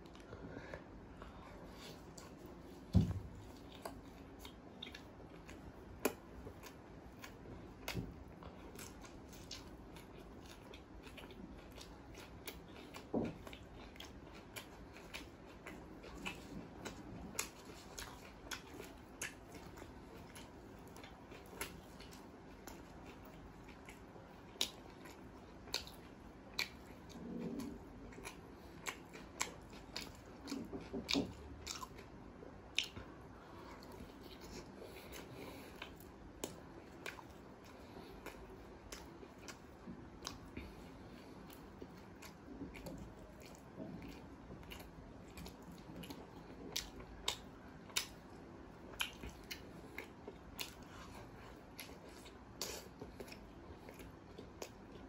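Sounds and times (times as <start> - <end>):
wet mouth chewing sounds: 1.3 - 55.0.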